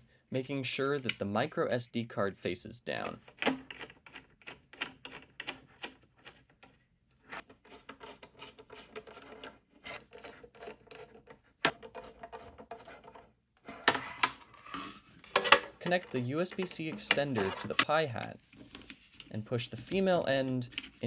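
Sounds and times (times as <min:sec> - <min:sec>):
plastic parts rubbing and scraping: 0:02.9 - 0:21.0.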